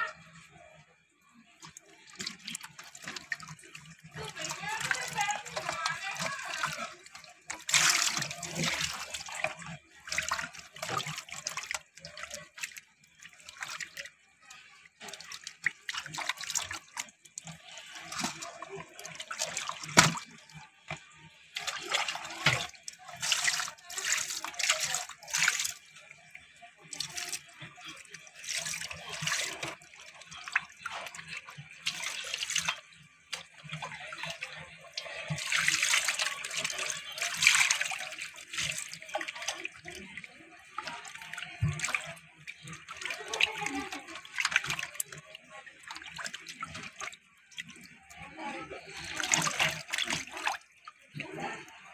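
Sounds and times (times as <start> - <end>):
water splashing in steel bowl: 1.5 - 51.9.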